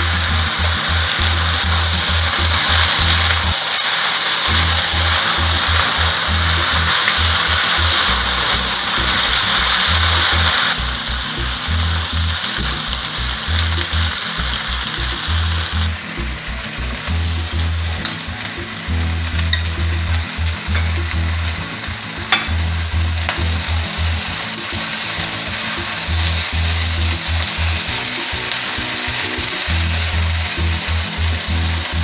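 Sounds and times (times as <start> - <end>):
music with pulsing bass: 0.0 - 3.7, 4.4 - 32.0
food sizzling in a frying pan: 0.0 - 32.0
spatula stir-frying: 0.0 - 32.0.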